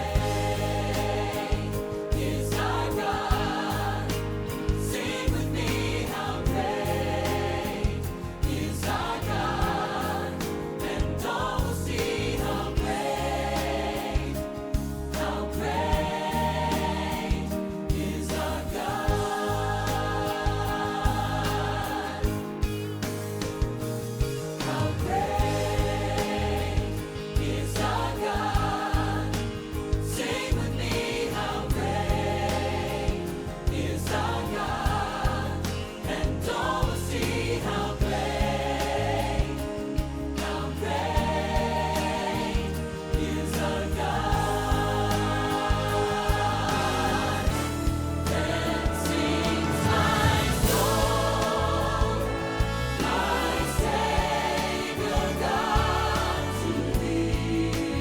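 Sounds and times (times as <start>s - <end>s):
choir singing worship song: 0.0s - 58.0s
instrumental accompaniment with beat: 0.0s - 58.0s.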